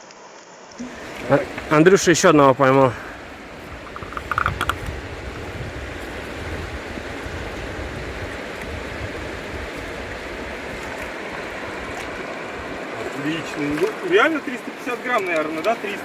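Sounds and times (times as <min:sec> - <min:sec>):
river rushing over rocks: 0:00.8 - 0:16.0.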